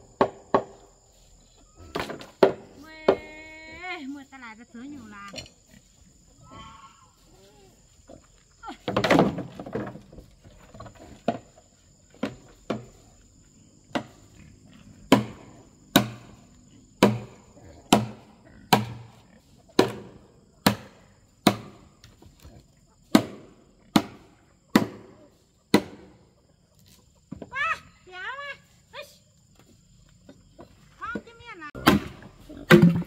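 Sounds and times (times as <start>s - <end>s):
high insect drone: 0.0s - 33.0s.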